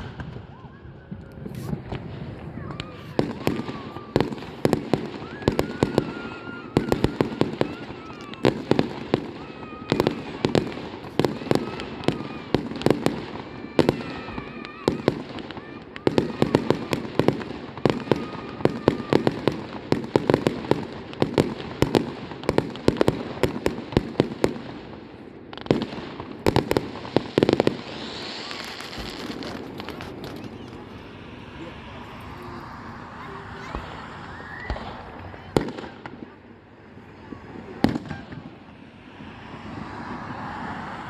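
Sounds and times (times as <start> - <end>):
fireworks bursting: 0.0 - 41.0
fireworks hissing: 1.1 - 41.0.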